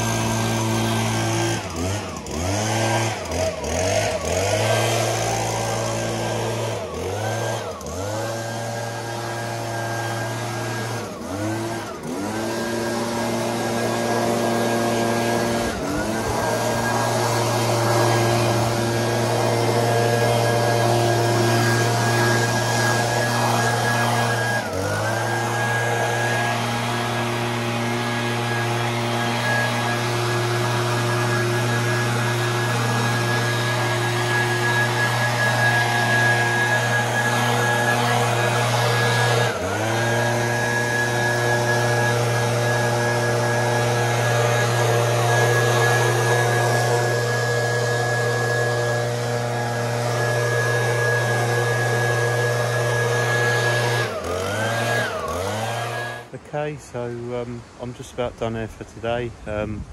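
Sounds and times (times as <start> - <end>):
electric power tool motor: 0.0 - 56.4.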